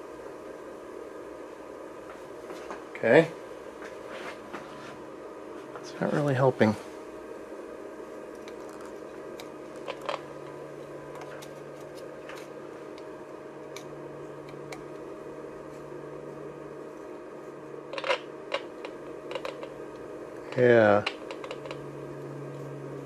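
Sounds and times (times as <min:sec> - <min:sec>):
radio speaker hiss and hum: 0:00.0 - 0:23.0.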